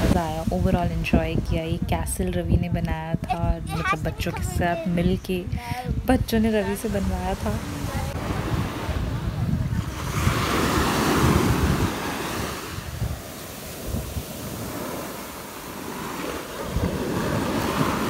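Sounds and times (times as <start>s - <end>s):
surf washing on sand: 0.0s - 18.0s
wind buffeting microphone: 0.0s - 18.0s.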